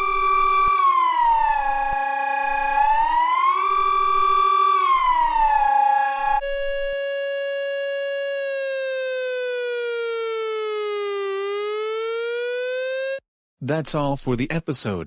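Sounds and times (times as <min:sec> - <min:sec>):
electronic siren tone: 0:00.0 - 0:13.2.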